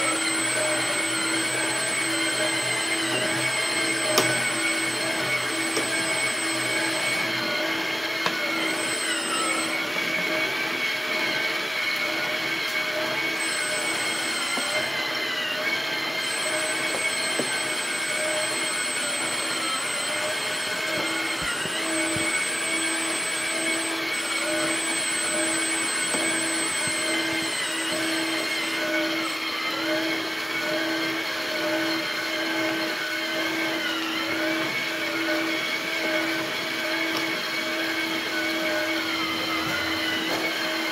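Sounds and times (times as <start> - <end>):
electric gear motors whining: 0.0 - 40.9.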